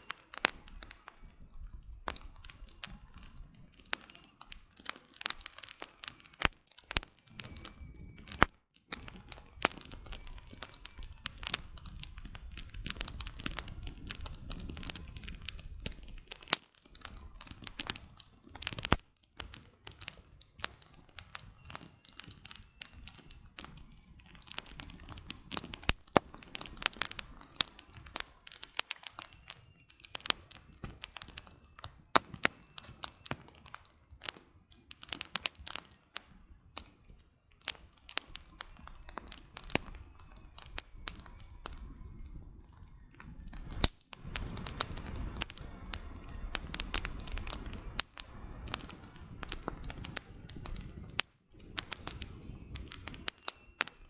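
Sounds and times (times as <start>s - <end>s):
campfire crackling: 0.0s - 54.0s
low rumble of flames: 0.0s - 54.0s
sharp pops and snaps: 0.0s - 54.0s.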